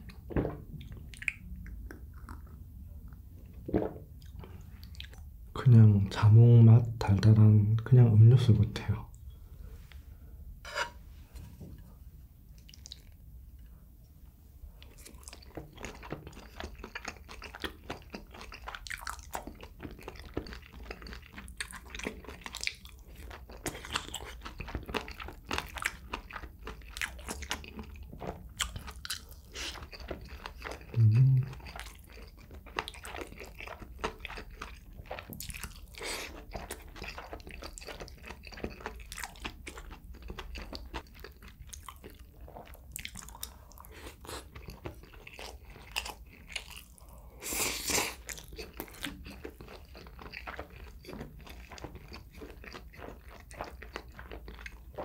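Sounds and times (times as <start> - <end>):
chewing and crunching: 0.0 - 3.6, 12.6 - 13.7, 14.8 - 55.0.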